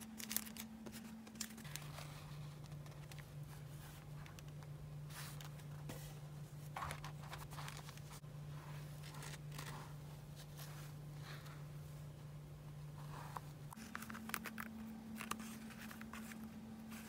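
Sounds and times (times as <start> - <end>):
paper and card rustling: 0.0 - 11.4, 13.1 - 17.0
steady low hum: 0.0 - 17.0.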